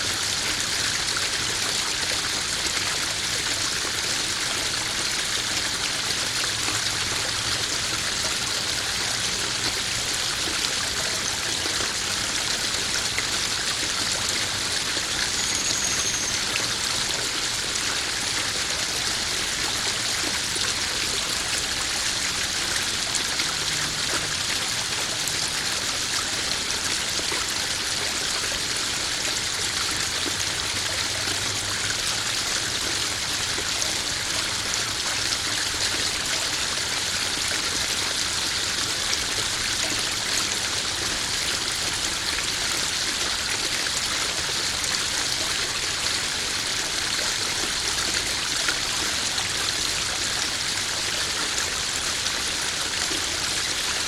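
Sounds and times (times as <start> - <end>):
waterfall splashing into pond: 0.0 - 54.0.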